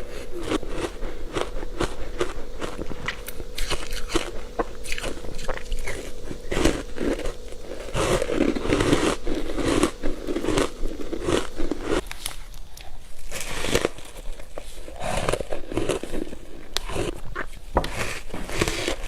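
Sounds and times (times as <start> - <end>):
crunchy ice chewing: 0.0 - 19.0.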